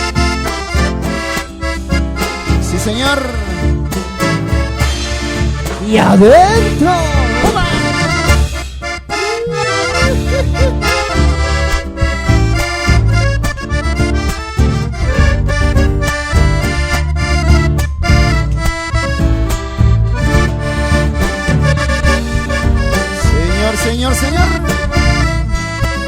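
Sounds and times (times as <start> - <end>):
accordion melody: 0.0 - 26.0
steady drum beat: 0.0 - 26.0.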